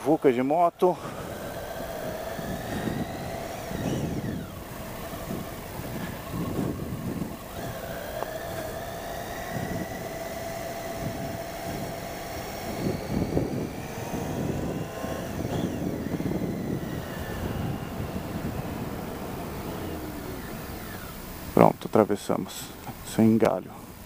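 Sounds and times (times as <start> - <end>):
motorcycle engine accelerating: 0.9 - 21.9
wind rumble on microphone: 1.1 - 21.8.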